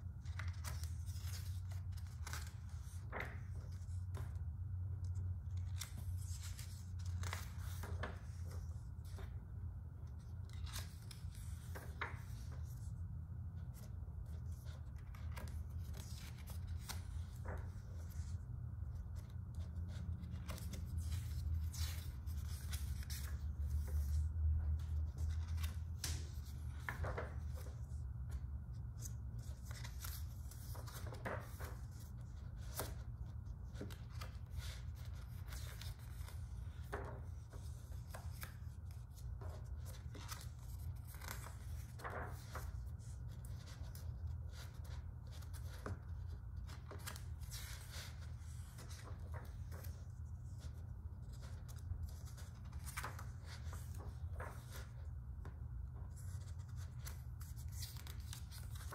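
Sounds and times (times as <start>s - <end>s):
glossy book pages turning: 0.0s - 58.9s.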